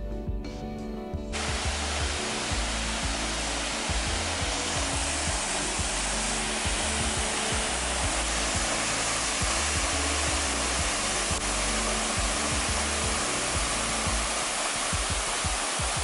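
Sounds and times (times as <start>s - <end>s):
creek cascading over rocks: 1.3s - 16.0s
waterfall rushing: 1.3s - 16.0s.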